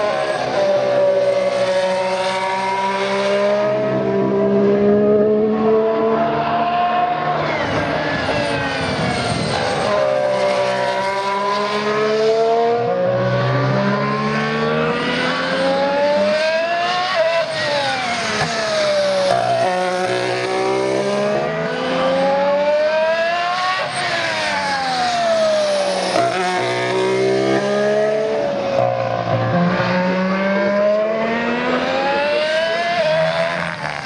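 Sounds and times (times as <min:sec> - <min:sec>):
racing car engine revving: 0:00.0 - 0:34.0.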